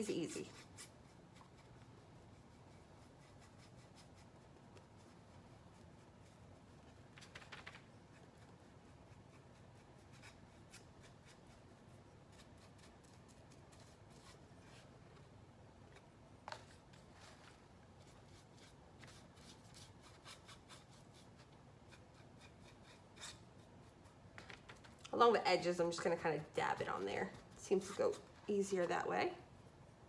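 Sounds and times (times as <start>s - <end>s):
paintbrush strokes: 0.0s - 15.2s, 16.5s - 29.8s.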